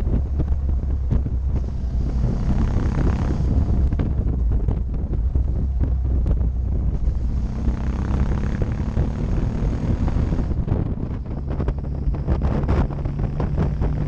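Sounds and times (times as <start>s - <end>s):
motorcycle engine humming: 0.0s - 14.0s
wind buffeting microphone: 0.0s - 14.0s.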